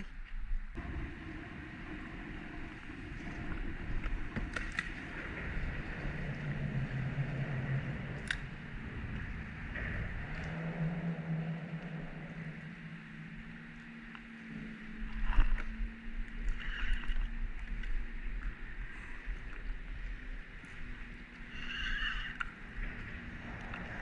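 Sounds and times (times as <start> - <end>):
low steady hum: 0.0 - 24.0
wind buffeting microphone: 0.0 - 24.0.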